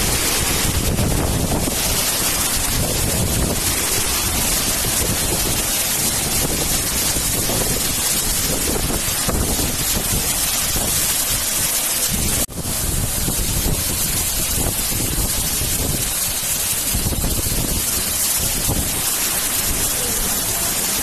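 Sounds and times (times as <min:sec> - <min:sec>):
waterfall onto rocks: 0:00.0 - 0:21.0.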